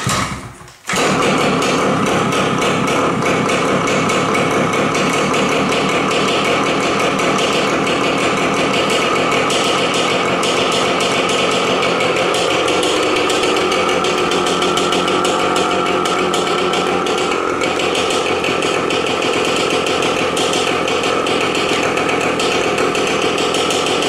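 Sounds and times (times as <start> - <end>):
two-stroke engine popping exhaust: 0.0 - 24.0.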